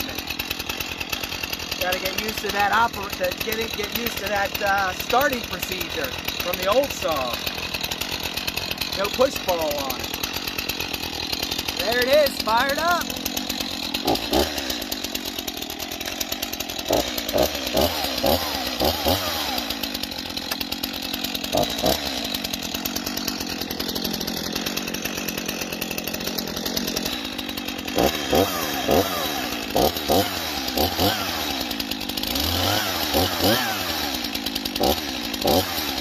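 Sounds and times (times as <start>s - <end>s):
chainsaw idling and revving: 0.0s - 36.0s.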